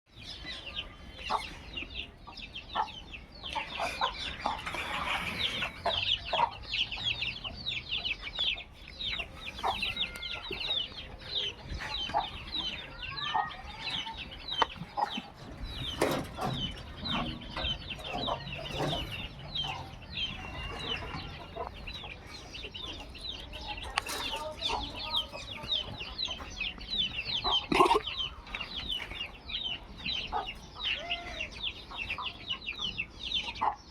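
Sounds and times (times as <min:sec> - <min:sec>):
birds chirping: 0:00.1 - 0:33.9
fowl clucking: 0:02.7 - 0:07.6, 0:08.6 - 0:33.9.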